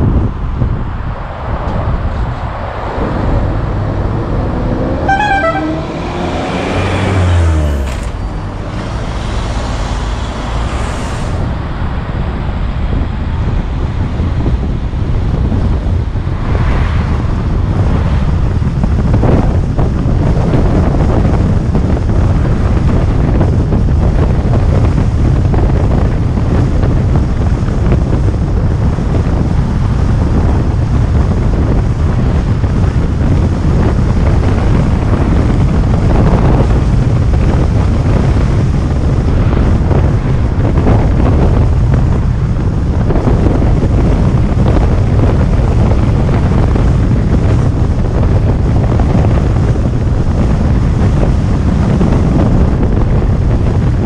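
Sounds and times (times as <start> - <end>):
car driving rumble: 0.0 - 54.0
wind buffeting microphone: 0.0 - 54.0.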